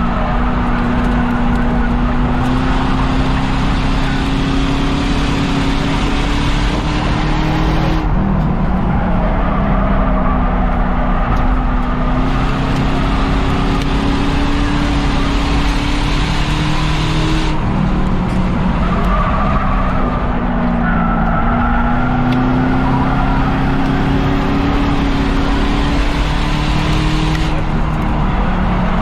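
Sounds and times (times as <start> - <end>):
race car engine: 0.0 - 29.0
wind and tyre noise: 0.0 - 29.0.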